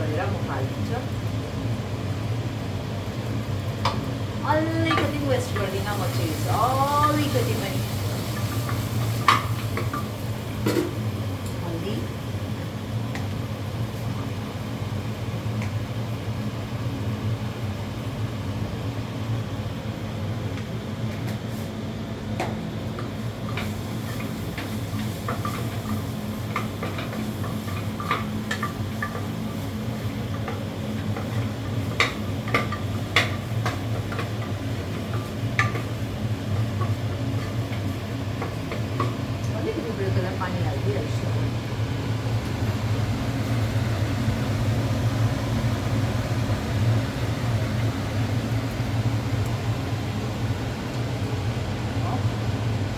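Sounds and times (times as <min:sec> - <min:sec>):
spices sizzling: 0:00.0 - 0:52.9.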